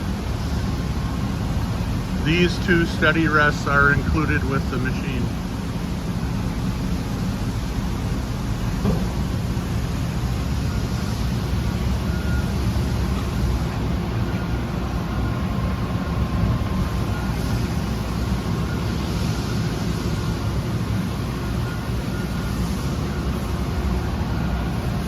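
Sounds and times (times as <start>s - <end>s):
faint high whine: 0.0s - 25.0s
low machinery rumble: 0.0s - 25.0s.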